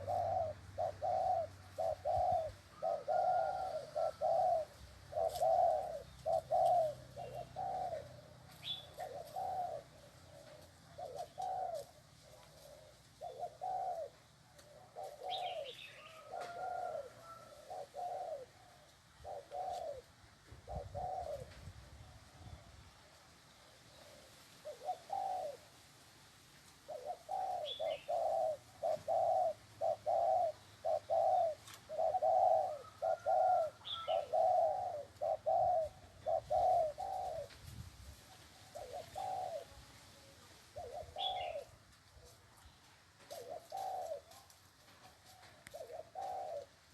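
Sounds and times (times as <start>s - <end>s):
dove cooing: 0.0s - 25.8s, 26.8s - 46.9s.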